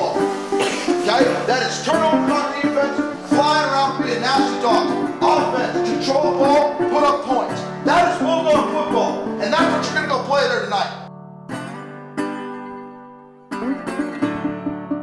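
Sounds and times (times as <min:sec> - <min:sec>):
quick plucked notes: 0:00.0 - 0:12.4
background music: 0:00.0 - 0:15.0.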